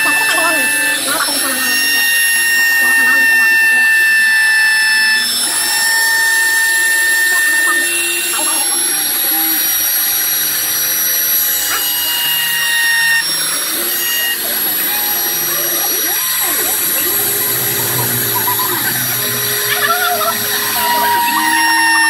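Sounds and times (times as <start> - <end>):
machine motors whining: 0.0 - 22.0.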